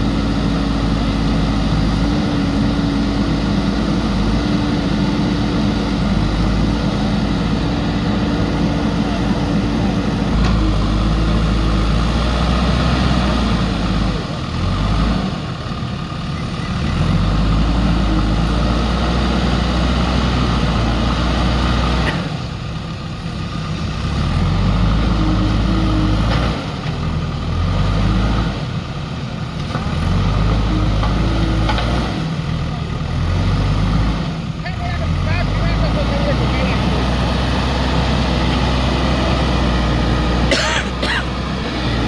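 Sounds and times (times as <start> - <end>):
diesel engine running under load: 0.0 - 42.0.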